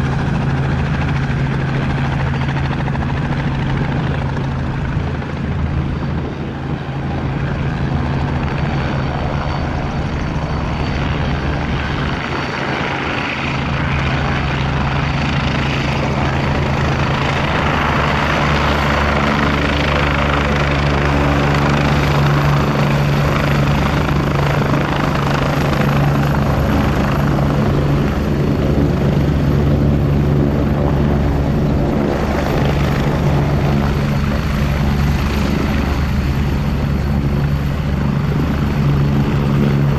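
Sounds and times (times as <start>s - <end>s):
helicopter rotor beat: 0.0s - 39.9s
high turbine whine: 0.0s - 39.9s.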